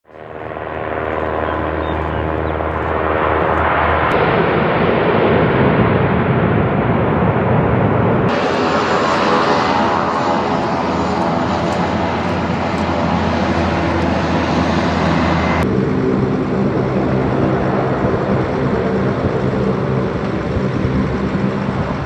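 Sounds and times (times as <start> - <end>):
propeller engines drone: 0.0 - 22.0.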